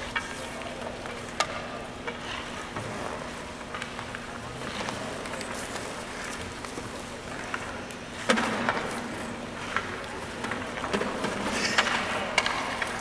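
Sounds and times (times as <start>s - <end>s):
pucks cracking against sticks: 0.0s - 13.0s.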